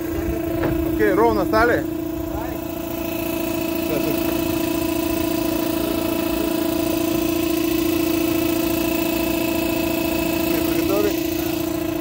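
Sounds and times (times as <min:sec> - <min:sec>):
air blower humming: 0:00.0 - 0:12.0.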